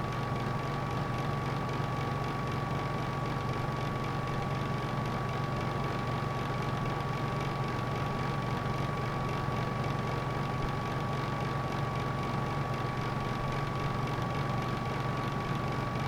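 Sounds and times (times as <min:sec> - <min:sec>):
electric heater hum: 0:00.0 - 0:16.0
fan air noise: 0:00.0 - 0:16.0.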